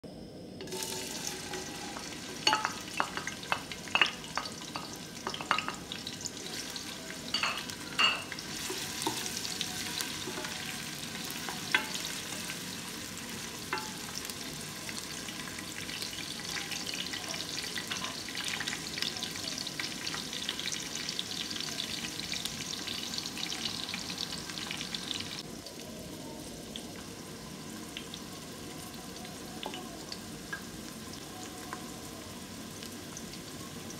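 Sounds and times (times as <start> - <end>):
onions sizzling in oil: 0.6 - 33.9.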